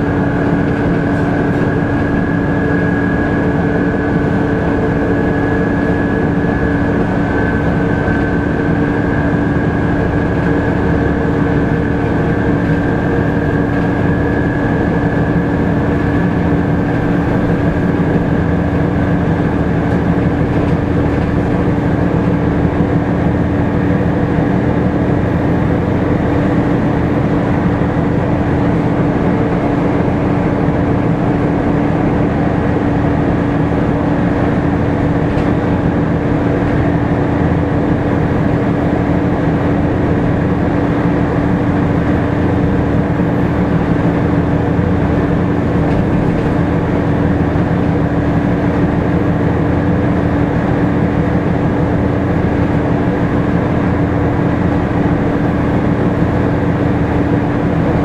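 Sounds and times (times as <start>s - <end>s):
bus diesel engine running: 0.0s - 58.0s
engine cooling fan hum: 0.0s - 58.0s
road rumble: 0.0s - 58.0s.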